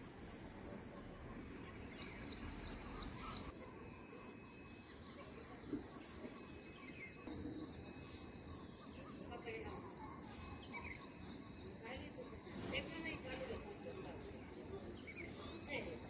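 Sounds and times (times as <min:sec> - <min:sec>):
small birds chirping: 0:00.0 - 0:16.0
steady outdoor noise: 0:00.0 - 0:16.0.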